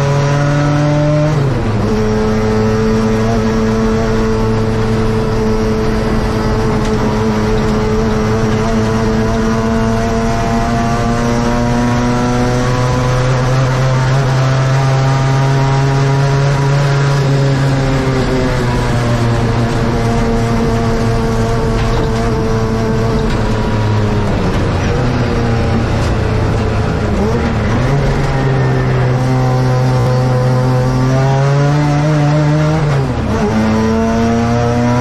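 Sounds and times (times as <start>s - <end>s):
race car engine under load: 0.0s - 35.0s.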